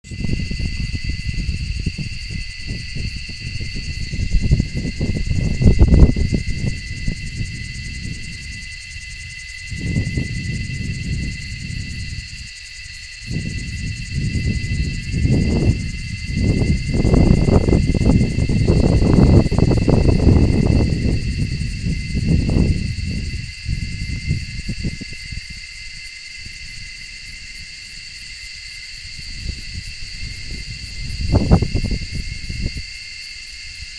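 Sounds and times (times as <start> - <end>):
insects chorus: 0.0 - 33.9.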